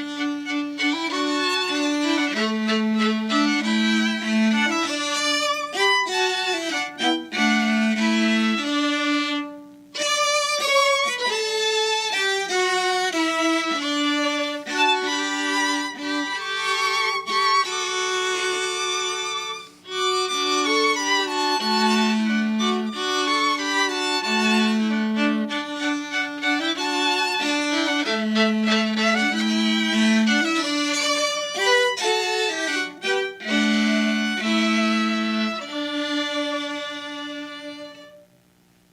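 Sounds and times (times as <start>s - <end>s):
violins playing: 0.0s - 38.2s.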